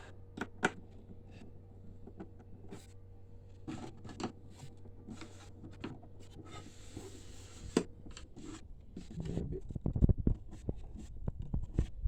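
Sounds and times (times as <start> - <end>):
steady low hum: 0.0 - 12.0
clicks and scrapes of plastic parts: 0.3 - 2.9, 3.5 - 12.0.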